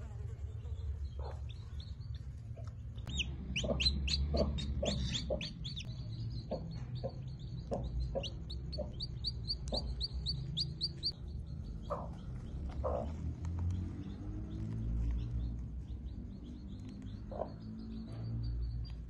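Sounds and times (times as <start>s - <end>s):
low rumble: 0.0s - 19.0s
chicks peeping: 0.4s - 19.0s.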